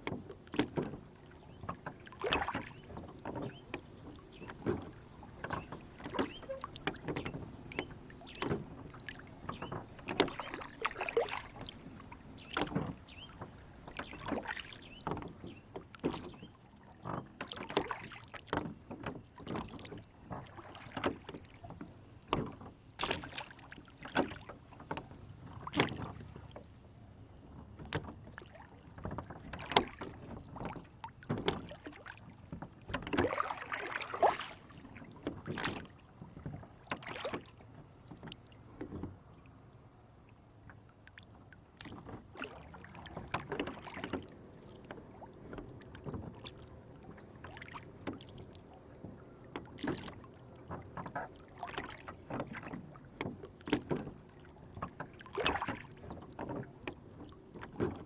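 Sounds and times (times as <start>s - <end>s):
water splashing against rowboat: 0.0s - 58.0s.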